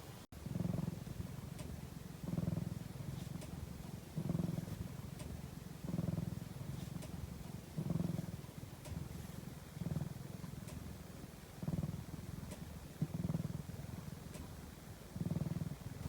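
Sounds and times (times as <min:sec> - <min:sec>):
cat purring: 0:00.4 - 0:16.0.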